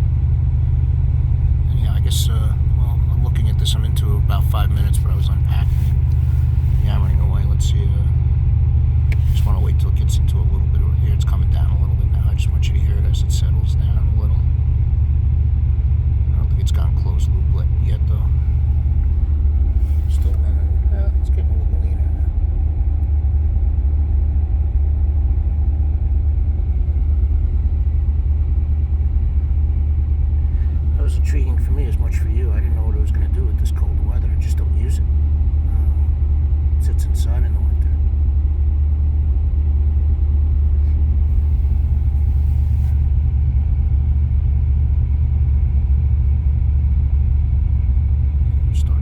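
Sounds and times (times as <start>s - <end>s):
engine idling with low rumble: 0.0s - 49.0s.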